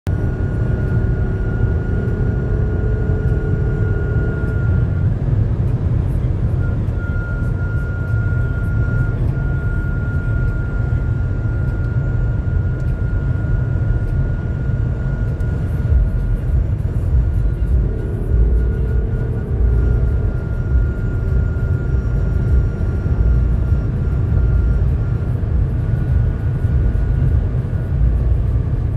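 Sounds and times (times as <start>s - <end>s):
road and wind rumble: 0.0s - 28.9s
high-pitched whine: 0.1s - 28.9s.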